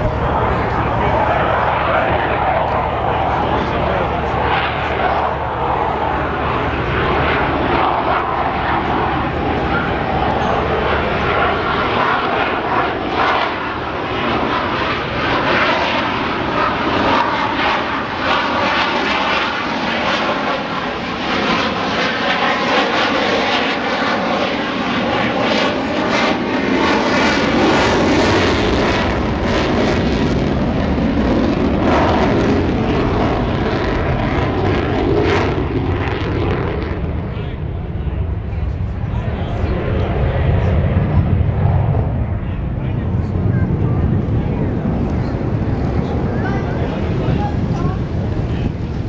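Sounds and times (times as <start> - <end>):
jet engine noise: 0.0 - 49.0.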